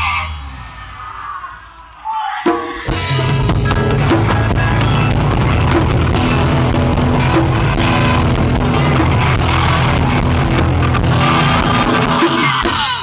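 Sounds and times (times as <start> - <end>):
rock music: 0.0 - 13.0.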